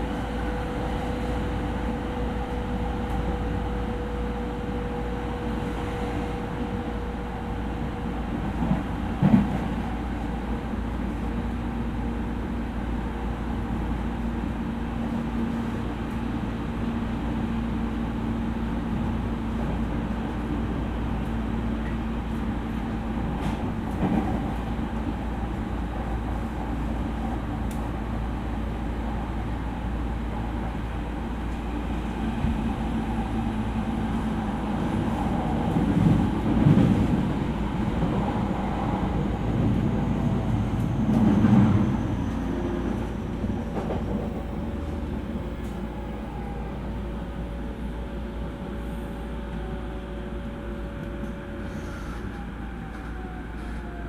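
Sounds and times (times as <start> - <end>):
train motor hum: 0.0 - 54.0
train wheels rumbling on rail: 0.0 - 54.0.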